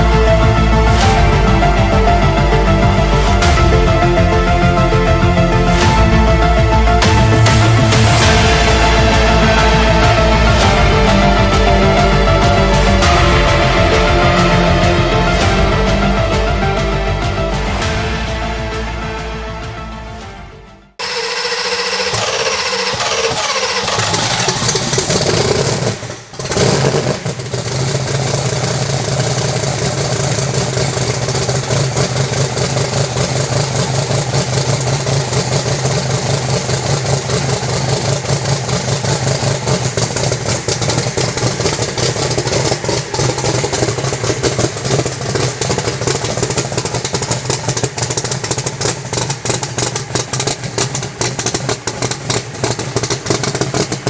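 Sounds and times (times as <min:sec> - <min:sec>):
drag racing engine idling: 0:00.0 - 0:17.7, 0:21.0 - 0:54.0.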